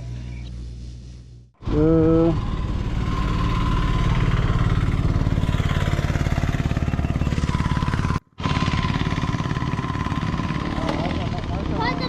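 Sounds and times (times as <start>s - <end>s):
motorcycle engine running: 1.7s - 12.0s.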